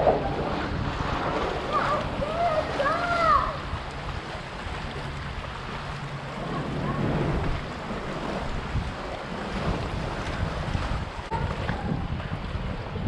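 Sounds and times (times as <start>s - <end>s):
low rumble: 0.0s - 13.0s
water washing: 0.0s - 13.0s
wind buffeting microphone: 0.0s - 13.0s.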